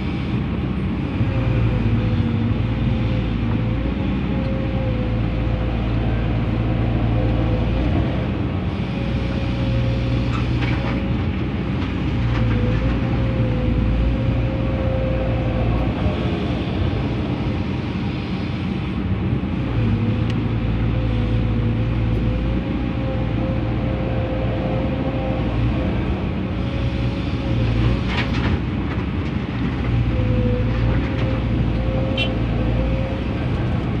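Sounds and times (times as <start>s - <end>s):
diesel engine running under load: 0.0s - 34.0s.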